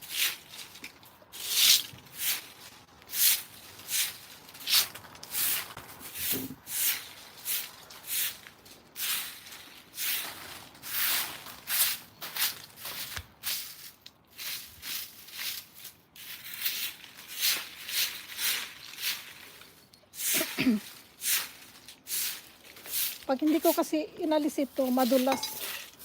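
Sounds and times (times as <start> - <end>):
footsteps crunching outdoors: 0.0 - 26.0.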